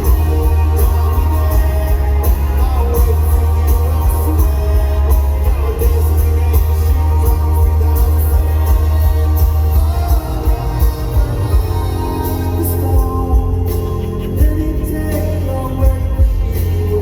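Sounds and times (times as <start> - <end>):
heavy bass: 0.0 - 17.0
rock band playing live: 0.0 - 17.0
steady drum beat: 0.0 - 17.0.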